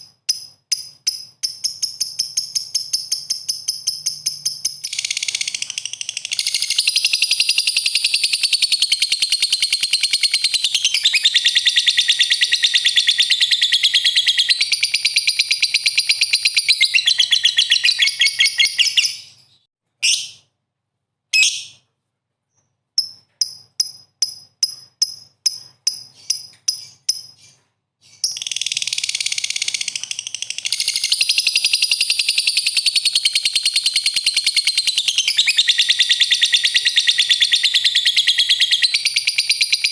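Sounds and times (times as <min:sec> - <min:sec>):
songbird rapid chattering song: 0:00.0 - 0:20.4, 0:23.0 - 0:39.9.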